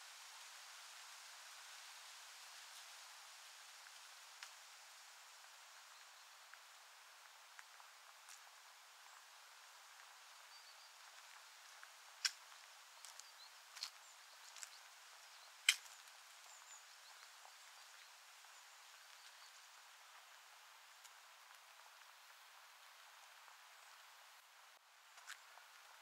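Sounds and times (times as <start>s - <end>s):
faint outdoor hiss: 0.0s - 26.0s.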